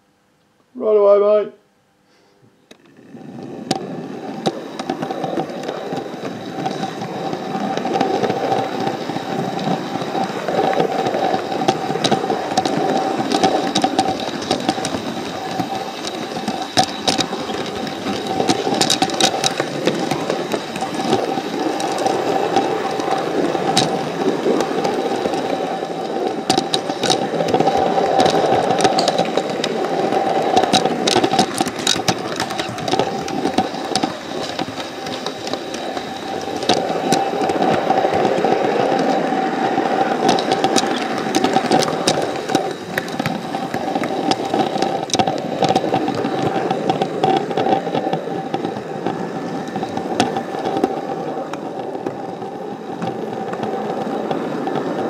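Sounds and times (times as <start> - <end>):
model train motor hum and rattle: 2.7 - 55.0
wheels clicking on rails: 2.7 - 55.0.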